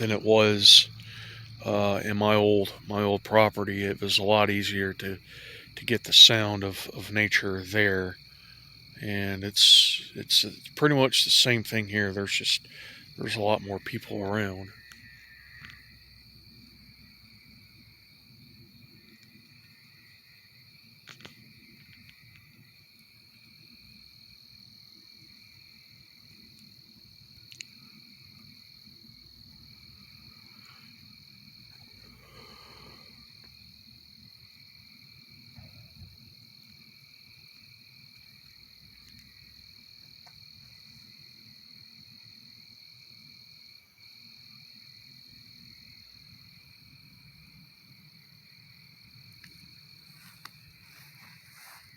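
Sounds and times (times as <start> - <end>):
insects and frogs chorus: 0.0 - 51.9.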